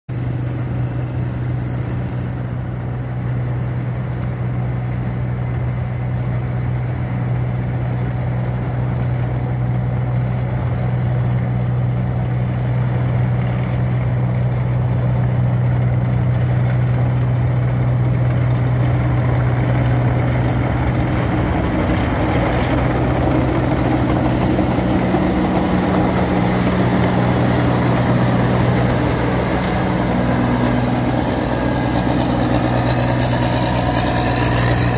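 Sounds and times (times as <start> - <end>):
combine harvester diesel engine droning: 0.1 - 34.9.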